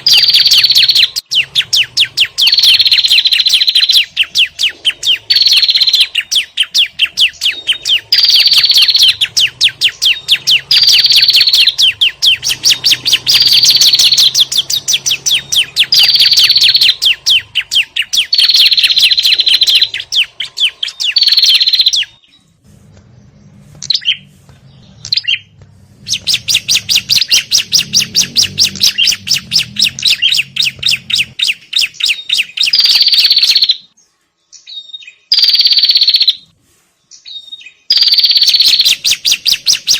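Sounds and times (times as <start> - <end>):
small songbirds chattering: 0.0 - 39.9.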